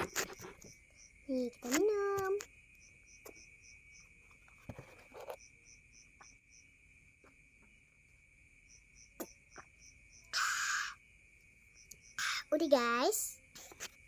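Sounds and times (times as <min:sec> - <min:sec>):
faint crickets chirping: 0:00.0 - 0:14.0.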